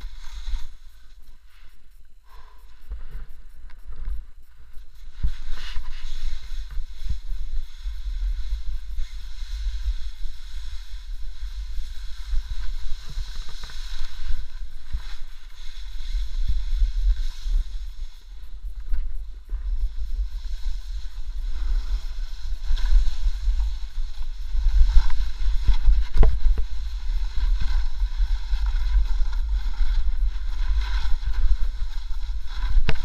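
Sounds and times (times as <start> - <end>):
snowboard sliding on snow: 0.0 - 1.6, 4.9 - 33.0
wind buffeting microphone: 2.7 - 33.0.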